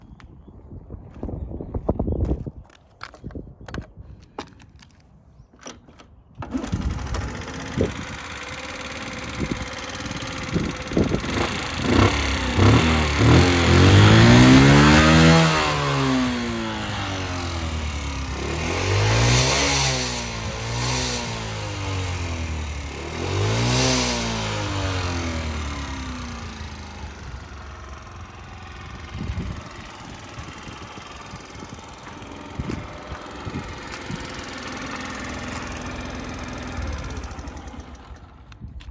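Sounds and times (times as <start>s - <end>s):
small motorcycle engine revving: 6.4s - 38.8s.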